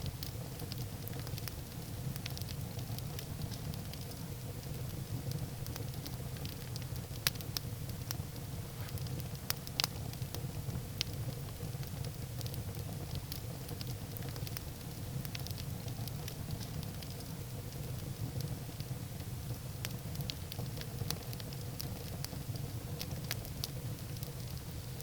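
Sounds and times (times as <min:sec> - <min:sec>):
firewood crackling and popping: 0:00.0 - 0:25.0
low rumble of flames: 0:00.0 - 0:25.0.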